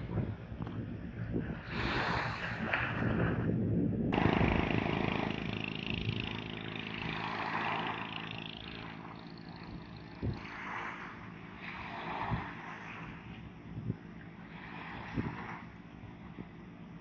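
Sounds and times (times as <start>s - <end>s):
steady low hum: 0.0s - 17.0s
wind on microphone: 0.0s - 17.0s
small waves washing onto beach: 1.5s - 3.5s, 4.2s - 17.0s.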